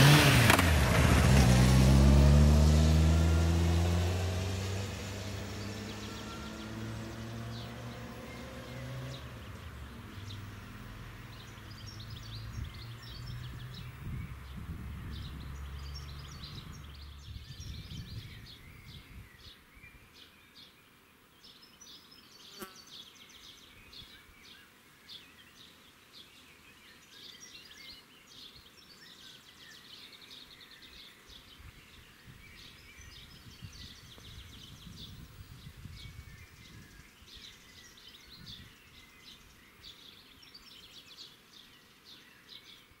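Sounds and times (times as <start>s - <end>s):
birds chirping and singing: 2.7s - 43.0s.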